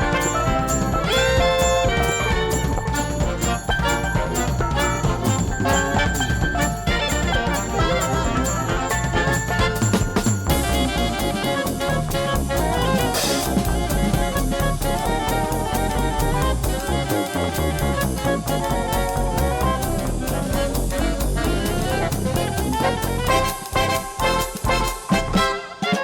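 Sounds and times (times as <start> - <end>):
upbeat jazz with brass and drums: 0.0 - 26.0.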